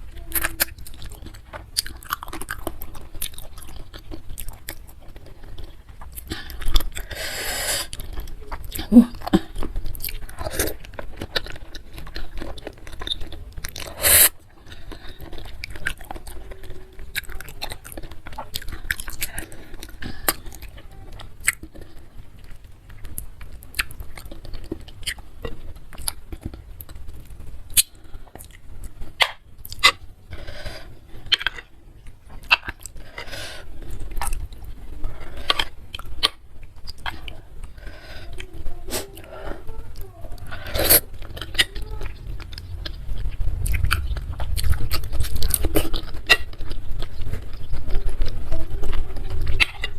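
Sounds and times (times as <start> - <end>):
close chewing and biting: 0.0 - 49.9.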